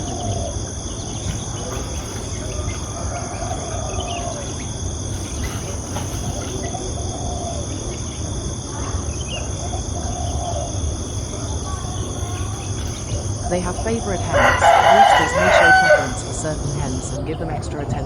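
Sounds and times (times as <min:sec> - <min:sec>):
insect chorus drone: 0:00.0 - 0:18.0
low background rumble: 0:00.0 - 0:18.0.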